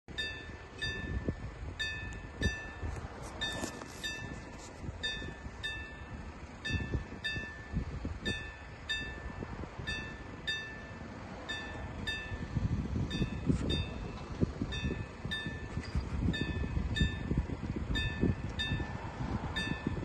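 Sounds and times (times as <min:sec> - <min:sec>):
level crossing warning bell: 0:00.1 - 0:20.0.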